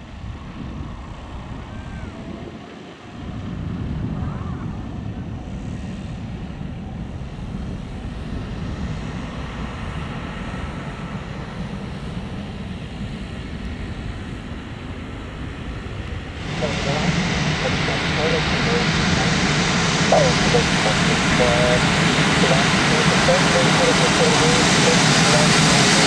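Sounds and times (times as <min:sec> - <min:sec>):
distant jet rumble: 0:00.0 - 0:26.0.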